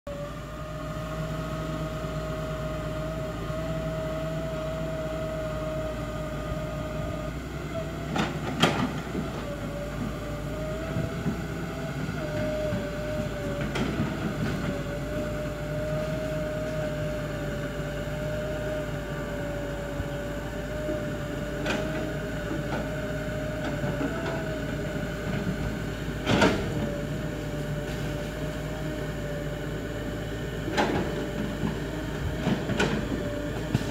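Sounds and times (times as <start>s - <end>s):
excavator running with whine: 0.1s - 33.9s.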